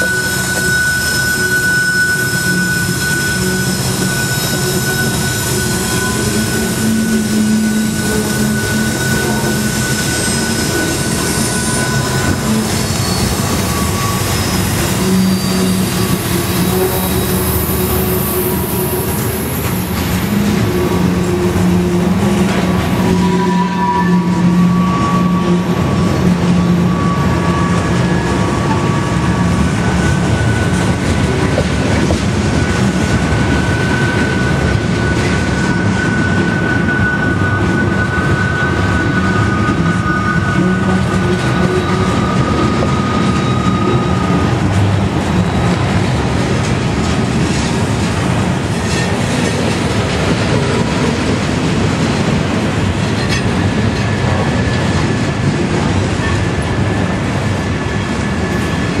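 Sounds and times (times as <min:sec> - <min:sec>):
freight train wheels rumbling: 0:00.0 - 0:59.0
high wheel squeals: 0:00.0 - 0:59.0.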